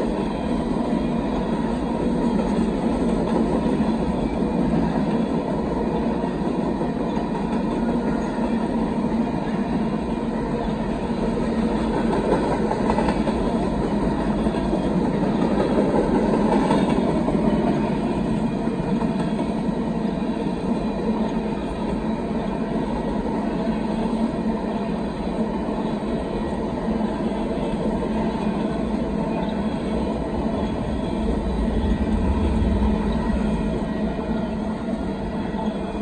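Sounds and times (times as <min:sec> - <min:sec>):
train wheels on rails: 0:00.0 - 0:36.0.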